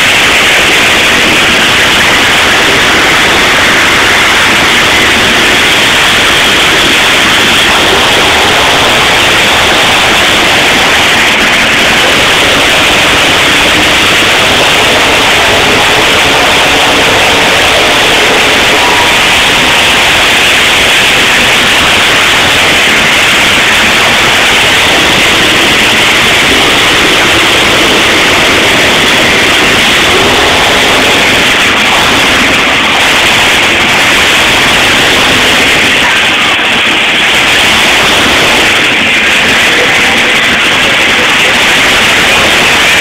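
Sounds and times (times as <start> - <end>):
distorted monster truck engines: 0.0 - 43.0.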